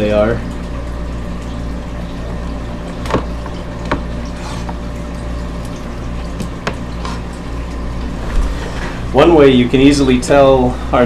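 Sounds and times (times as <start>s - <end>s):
pump hum: 0.0s - 11.0s
running splashing water: 0.0s - 11.0s.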